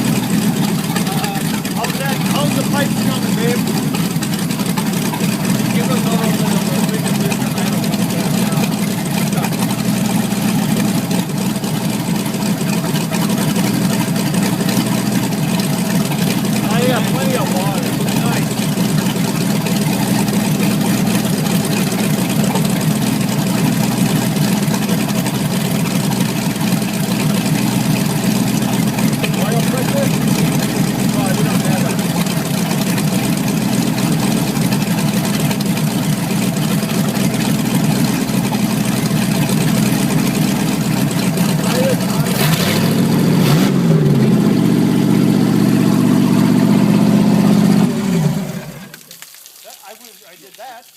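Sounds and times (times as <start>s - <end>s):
boat engine idling: 0.0s - 49.0s.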